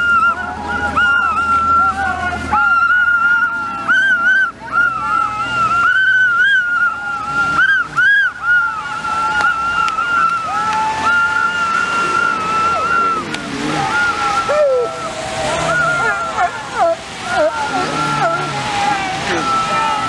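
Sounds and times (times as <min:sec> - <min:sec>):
high-pitched whistling tone: 0:00.0 - 0:20.0.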